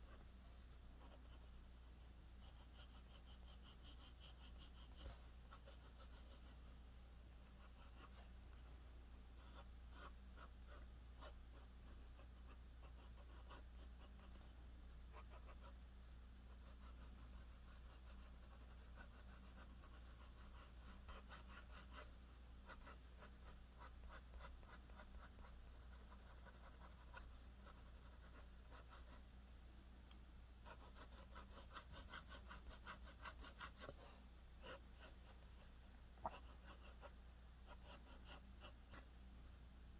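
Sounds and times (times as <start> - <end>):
pencil scratching on paper: 0.0 - 6.7, 7.4 - 8.6, 9.4 - 14.4, 15.0 - 15.8, 16.5 - 29.2, 30.6 - 34.0, 34.6 - 39.0
steady low hum: 0.0 - 39.9.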